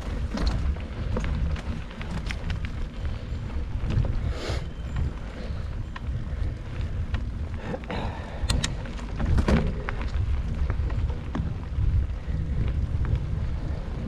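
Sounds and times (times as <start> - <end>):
bike clicks and rattles: 0.0 - 14.0
tyres rolling on dirt: 0.0 - 14.0
wind on microphone: 0.0 - 14.0.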